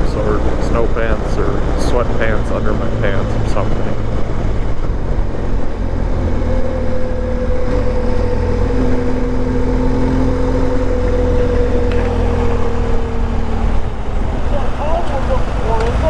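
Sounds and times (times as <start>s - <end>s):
motorcycle engine drone: 0.0s - 16.0s
wind rumble on microphone: 0.0s - 16.0s.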